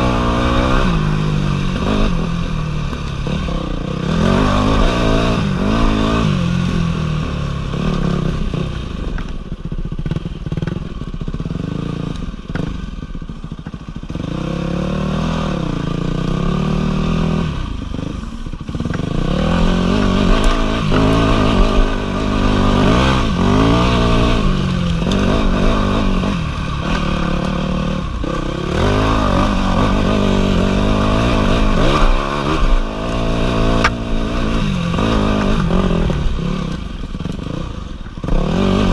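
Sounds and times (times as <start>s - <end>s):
dirt bike engine revving: 0.0s - 9.2s, 9.9s - 38.9s.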